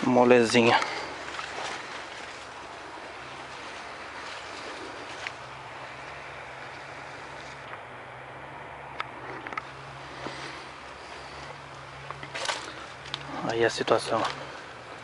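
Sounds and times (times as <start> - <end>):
heavy machine engine hum: 0.8 - 15.0.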